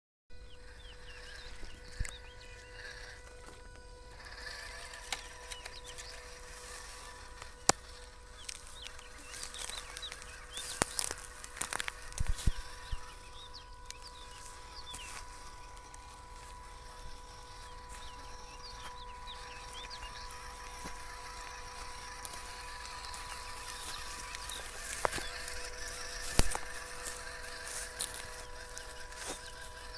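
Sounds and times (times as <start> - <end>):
small birds chirping: 0.4 - 29.9.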